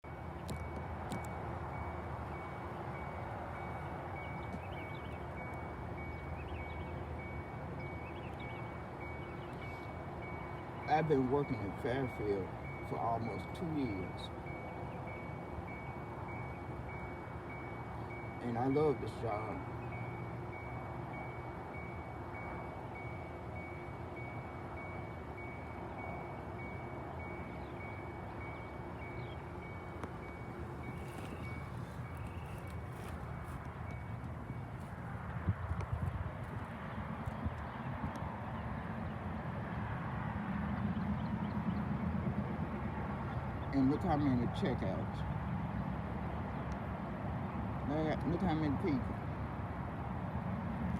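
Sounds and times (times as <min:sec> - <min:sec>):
steady low rumble: 0:00.0 - 0:43.4.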